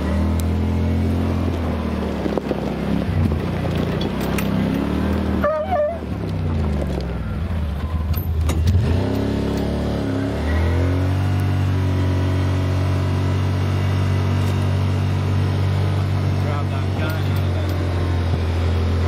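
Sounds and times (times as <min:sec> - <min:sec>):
utility vehicle engine running: 0:00.0 - 0:19.0.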